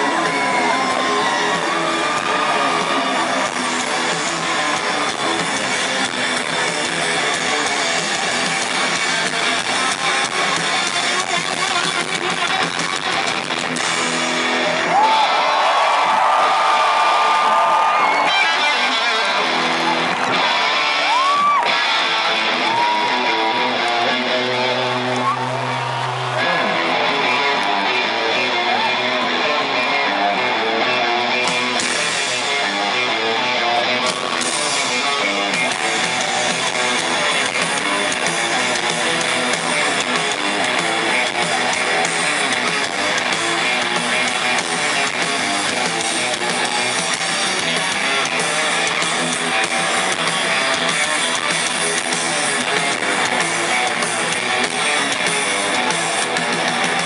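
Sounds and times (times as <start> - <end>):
electric guitar: 0.0 - 57.0
live rock band: 0.0 - 57.0.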